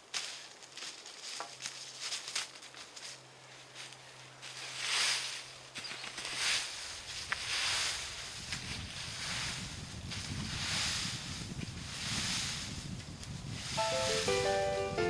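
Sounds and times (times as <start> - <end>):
rustling in dry leaves: 0.0 - 15.0.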